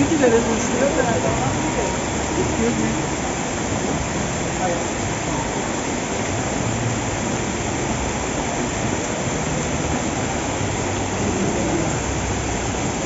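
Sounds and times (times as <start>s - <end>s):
heavy rain on paving: 0.0s - 13.0s.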